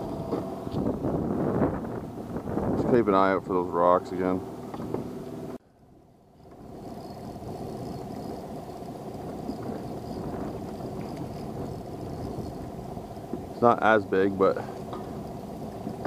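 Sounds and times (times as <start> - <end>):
outboard motor running: 0.0 - 16.0
water wake noise: 0.0 - 16.0.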